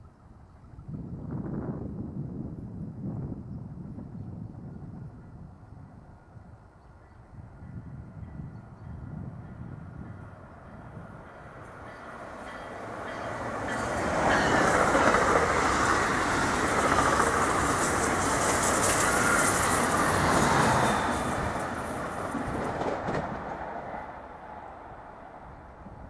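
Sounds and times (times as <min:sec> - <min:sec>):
train passing wheel and rail noise: 0:00.0 - 0:26.0.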